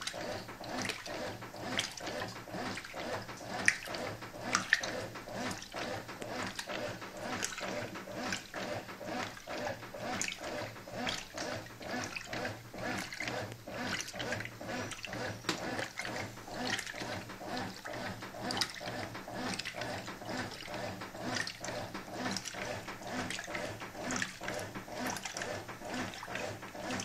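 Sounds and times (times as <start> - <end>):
washing machine churning water: 0.0 - 27.0.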